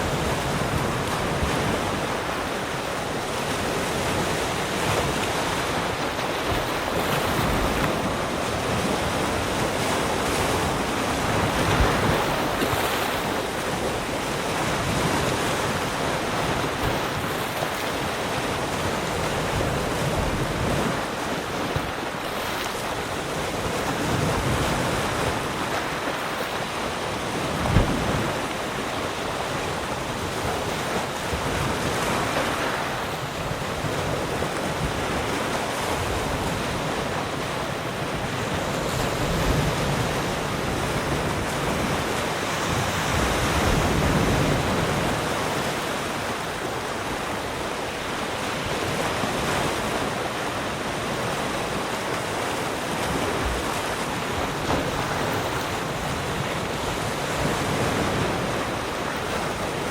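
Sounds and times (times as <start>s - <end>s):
waves breaking: 0.0s - 59.9s.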